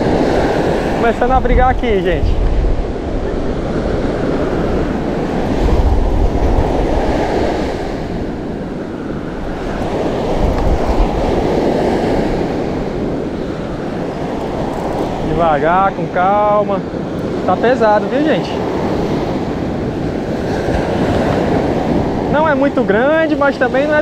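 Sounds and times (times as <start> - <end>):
surf washing on beach: 0.0 - 24.0
wind rumbling on microphone: 0.0 - 24.0.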